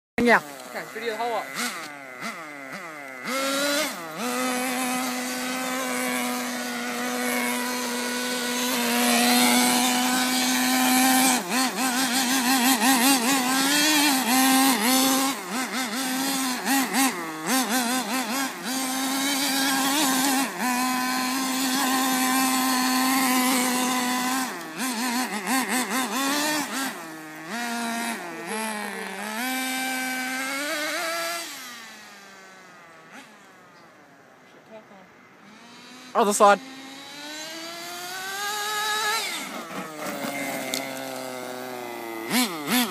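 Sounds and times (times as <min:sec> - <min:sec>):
small engine running at high revs: 0:00.2 - 0:42.9.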